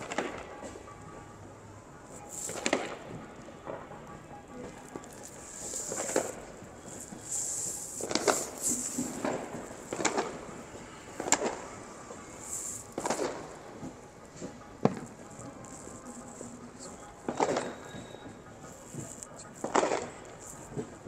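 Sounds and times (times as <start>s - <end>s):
firecrackers banging and popping: 0.0s - 0.9s, 2.1s - 21.0s.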